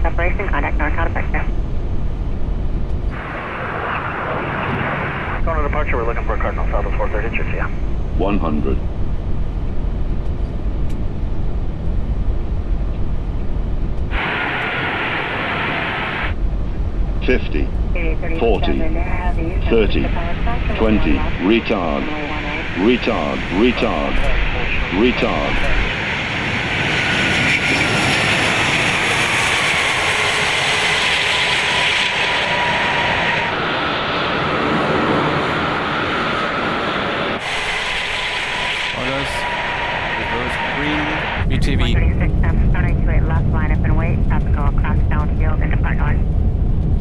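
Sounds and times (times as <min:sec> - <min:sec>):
airflow and engine rumble: 0:00.0 - 0:47.0.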